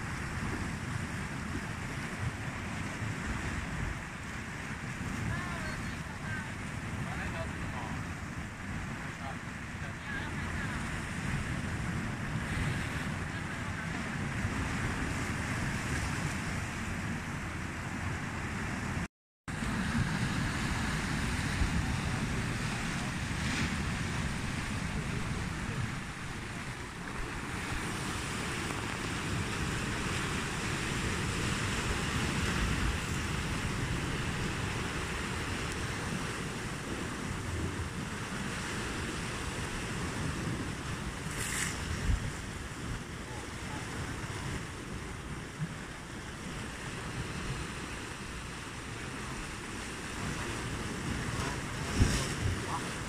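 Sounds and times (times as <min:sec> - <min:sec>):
sea waves washing: 0:00.0 - 0:53.0
wind buffeting microphone: 0:00.0 - 0:53.0.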